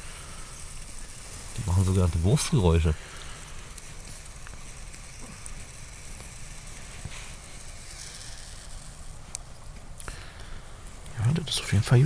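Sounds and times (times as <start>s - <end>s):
sausages sizzling: 0.0s - 11.2s
fire crackles: 0.0s - 12.0s.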